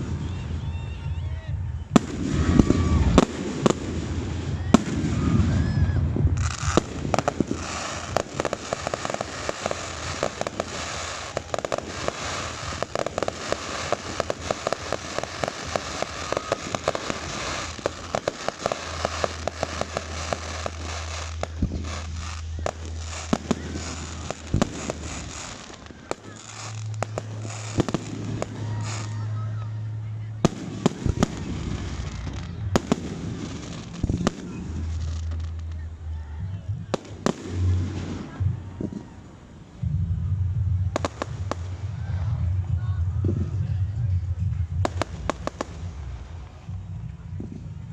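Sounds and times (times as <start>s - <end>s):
fireworks crackling and popping: 0.0s - 39.9s, 40.8s - 47.9s
fireworks booming: 0.0s - 47.9s.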